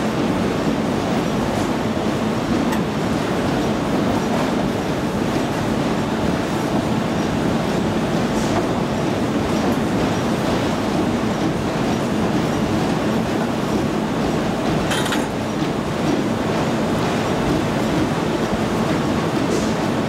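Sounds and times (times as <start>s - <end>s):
machine rumbling and clattering: 0.0s - 18.1s.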